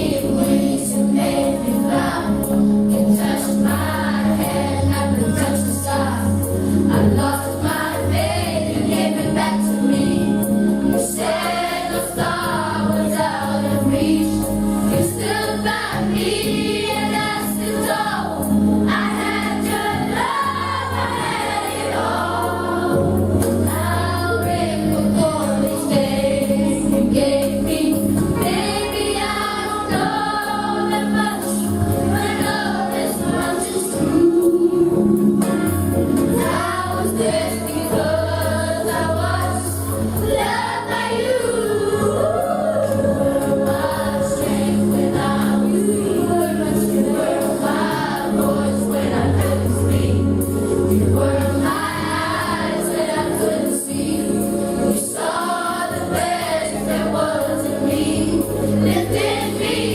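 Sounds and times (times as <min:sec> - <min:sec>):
choir singing gospel music: 0:00.0 - 0:59.9
instrumental accompaniment: 0:00.0 - 0:59.9
steady bass line: 0:00.0 - 0:59.9.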